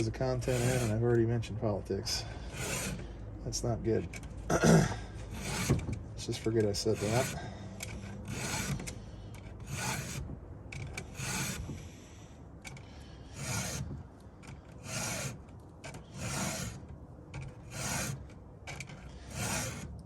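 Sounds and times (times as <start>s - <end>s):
files rasping on saw chain teeth: 0.0s - 1.1s, 2.1s - 3.1s, 5.3s - 10.2s, 10.8s - 20.0s.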